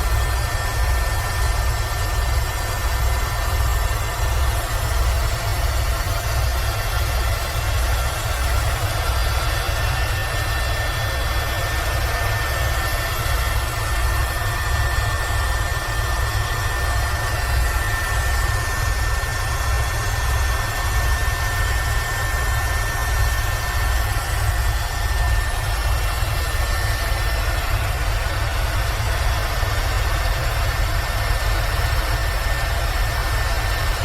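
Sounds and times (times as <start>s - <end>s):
helicopter rotor rumble: 0.0s - 34.0s
turbine engine whine: 0.0s - 34.0s.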